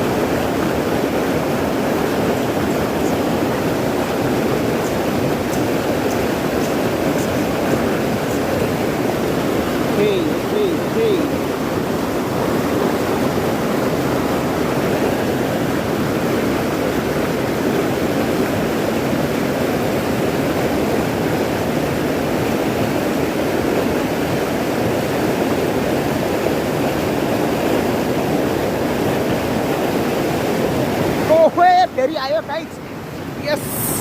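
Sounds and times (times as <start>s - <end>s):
rushing river water: 0.0s - 34.0s.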